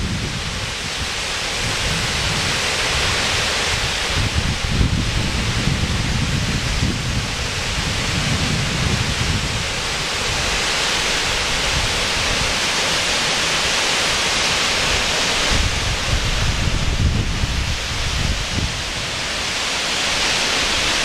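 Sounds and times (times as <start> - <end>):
wind buffeting microphone: 0.0 - 12.7, 14.7 - 21.0
waterfall rushing: 0.0 - 21.0.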